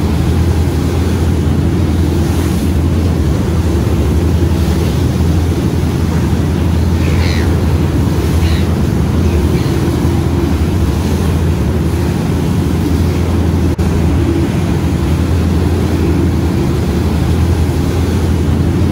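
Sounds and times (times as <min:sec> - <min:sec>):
boat engine droning: 0:00.0 - 0:18.9.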